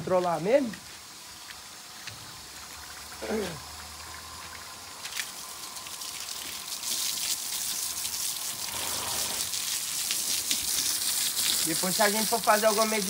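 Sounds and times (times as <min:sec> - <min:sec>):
hose water spraying: 0:00.0 - 0:13.0.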